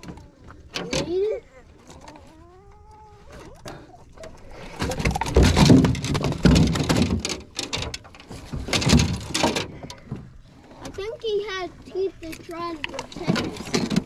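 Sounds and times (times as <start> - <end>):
rustling and crackling with clicks: 0.0 - 14.0.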